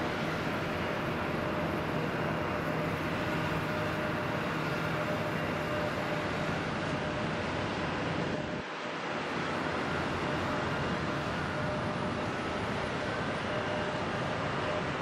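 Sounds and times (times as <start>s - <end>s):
faint constant hum: 0.0s - 15.0s.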